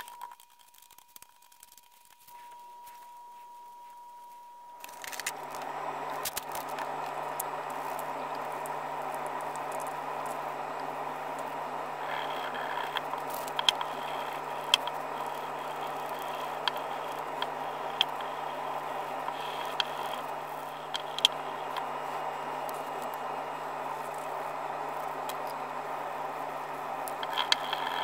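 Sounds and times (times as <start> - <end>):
small clicks: 0.0 - 2.3, 4.8 - 26.3, 27.0 - 28.0
whirring room noise with hum: 0.0 - 28.0.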